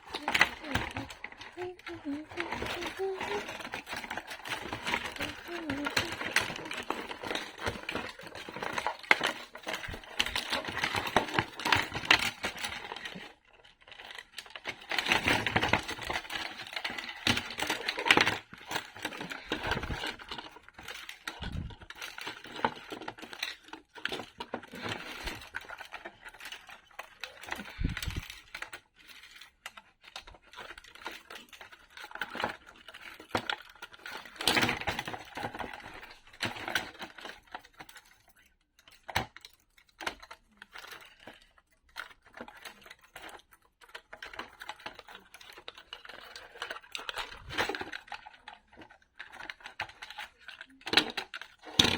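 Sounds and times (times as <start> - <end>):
puzzle pieces clicking and rustling: 0.0 - 51.9.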